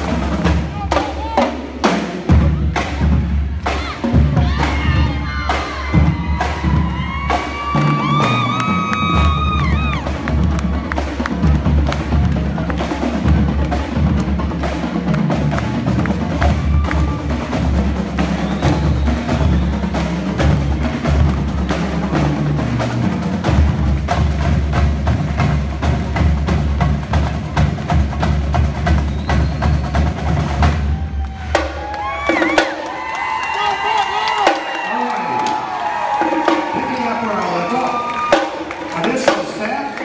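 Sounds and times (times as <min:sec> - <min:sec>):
marching bass drums pounding: 0:00.0 - 0:33.1
tenor drums rapid runs: 0:00.0 - 0:40.0.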